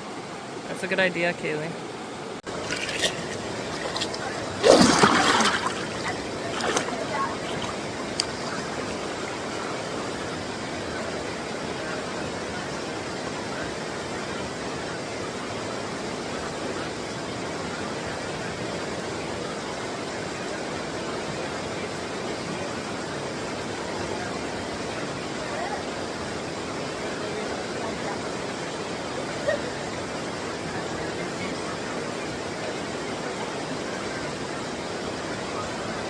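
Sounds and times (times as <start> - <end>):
flowing creek water: 0.0 - 36.0.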